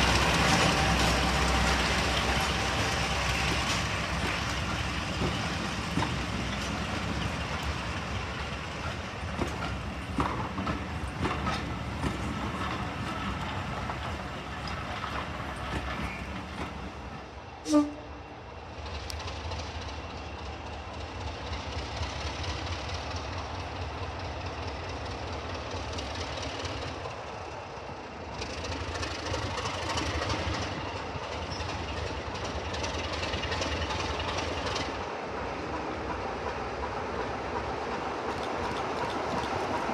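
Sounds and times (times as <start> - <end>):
diesel train rumbling on rails: 0.0 - 39.9.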